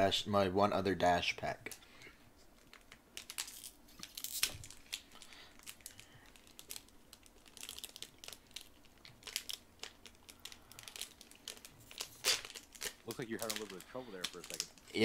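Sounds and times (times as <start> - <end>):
foil wrapper crinkling and tearing: 2.6 - 15.0.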